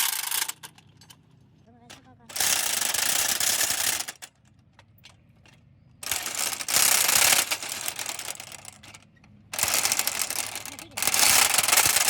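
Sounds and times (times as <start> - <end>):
rattling power tool on steel: 0.0 - 1.2, 1.9 - 4.6, 6.0 - 12.0.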